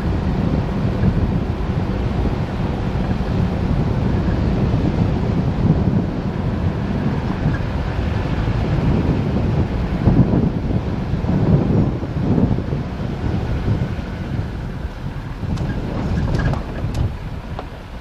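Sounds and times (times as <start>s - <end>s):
vehicle engine running: 0.0s - 18.0s
wind buffeting microphone: 0.0s - 18.0s.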